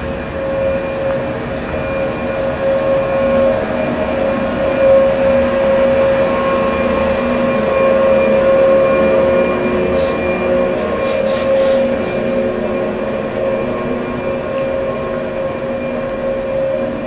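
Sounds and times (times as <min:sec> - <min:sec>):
electric train humming: 0:00.0 - 0:17.0
train wheels rumbling: 0:00.0 - 0:17.0.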